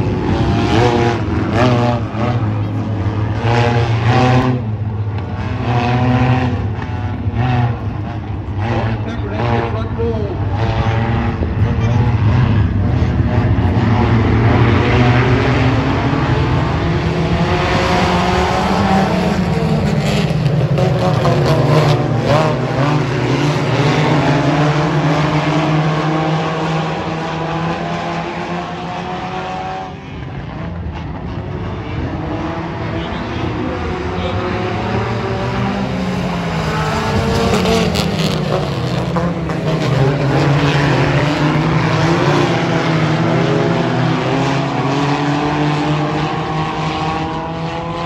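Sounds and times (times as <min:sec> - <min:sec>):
race car engines droning: 0:00.0 - 0:48.0.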